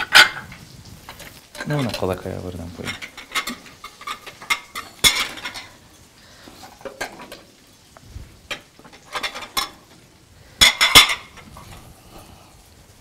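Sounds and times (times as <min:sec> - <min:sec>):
dishes clinking and clattering: 0:00.0 - 0:11.9.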